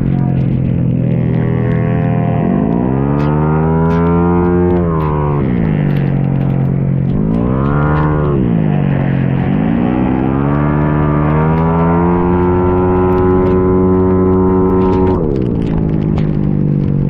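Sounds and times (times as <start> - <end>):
scooter engine racing: 0.0 - 17.0.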